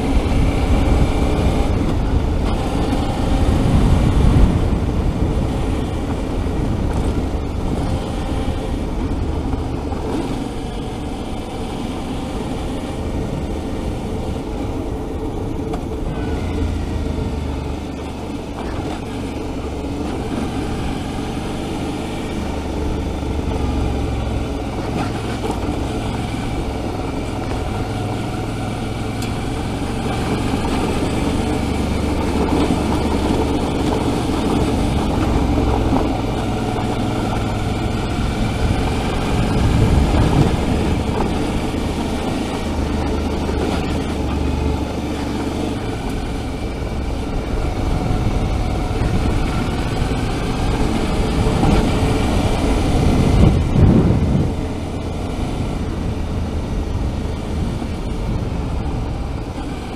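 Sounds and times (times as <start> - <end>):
motorcycle engine running: 0.0 - 59.9
tyres on gravel and wind noise: 0.0 - 59.9.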